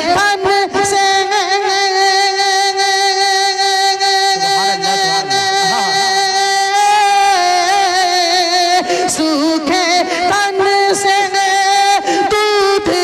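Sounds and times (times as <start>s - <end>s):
man singing a long high note: 0.0s - 13.0s.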